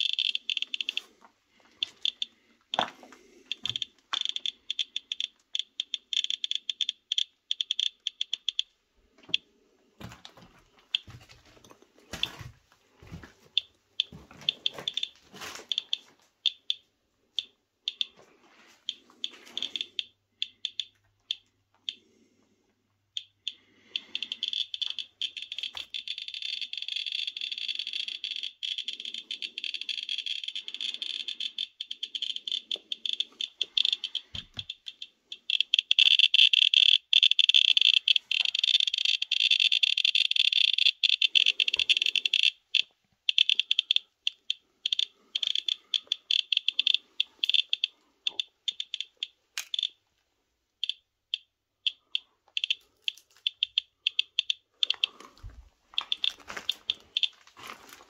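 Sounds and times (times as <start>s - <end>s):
geiger counter clicking: 0.0s - 1.1s, 1.7s - 8.7s, 13.5s - 16.8s, 17.4s - 18.2s, 18.8s - 22.0s, 23.1s - 50.0s, 50.8s - 57.3s.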